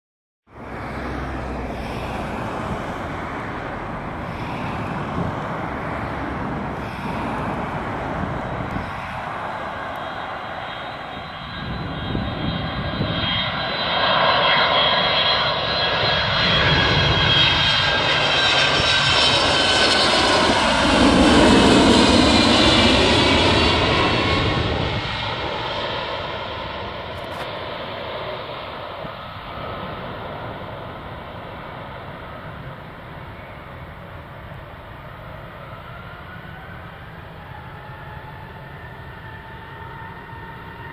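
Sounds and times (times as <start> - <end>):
jet airliner passing overhead: 0.5 - 40.9.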